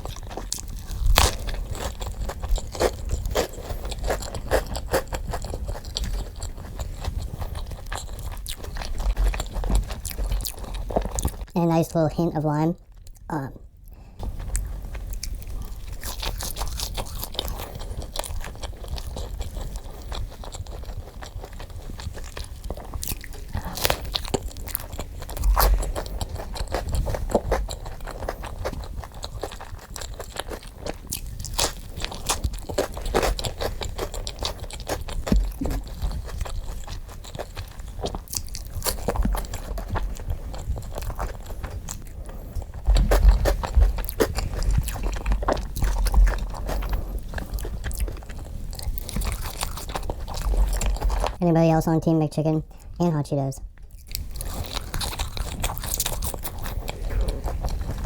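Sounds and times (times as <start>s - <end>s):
crunchy food chewing: 0.0s - 11.6s, 12.8s - 51.4s, 53.7s - 58.0s.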